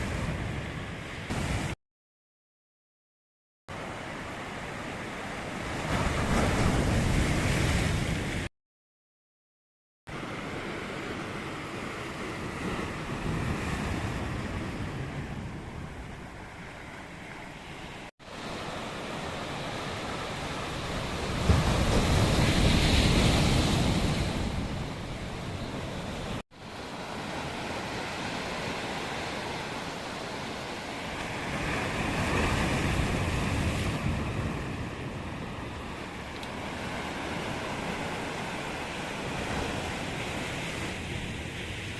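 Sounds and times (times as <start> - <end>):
sea waves breaking on shore: 0.0 - 1.8, 3.7 - 8.5, 10.1 - 41.9.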